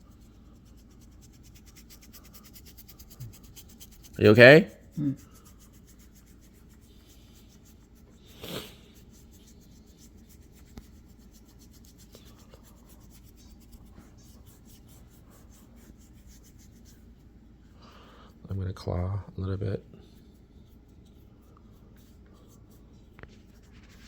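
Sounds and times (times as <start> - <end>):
hands rubbing during massage: 0.0 - 17.4, 20.0 - 24.0.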